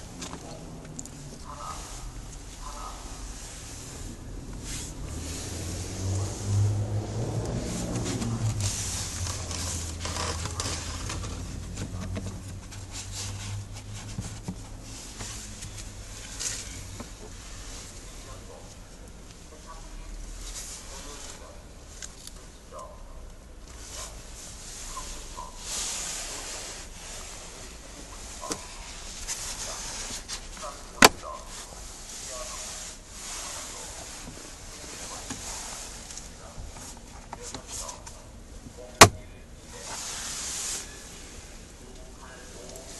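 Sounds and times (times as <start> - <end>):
rustling of air filter: 0.0 - 19.0, 23.7 - 42.9
handling and rubbing noises: 0.0 - 22.9, 23.6 - 42.9.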